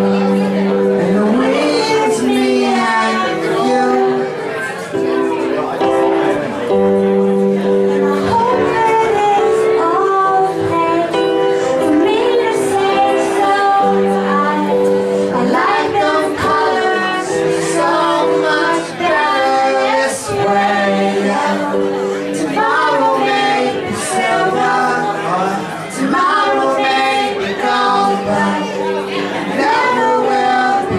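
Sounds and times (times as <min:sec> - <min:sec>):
singing voices: 0:00.0 - 0:30.9.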